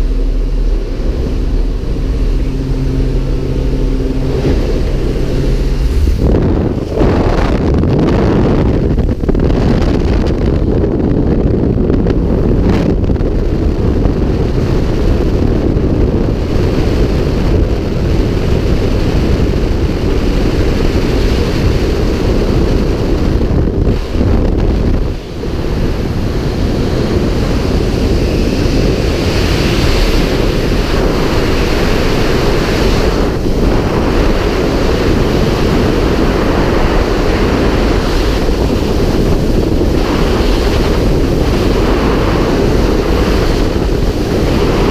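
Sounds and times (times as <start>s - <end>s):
wind blasting over microphone: 0.0s - 44.9s.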